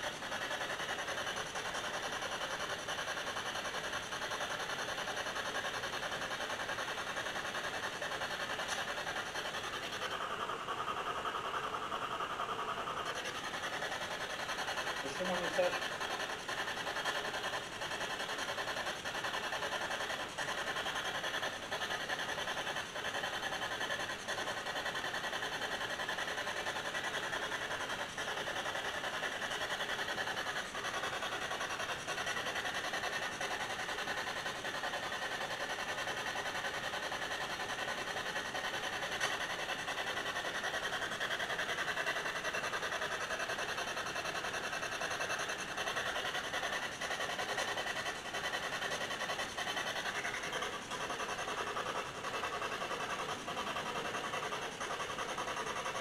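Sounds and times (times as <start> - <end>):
hiss-like background noise: 0.0 - 56.0.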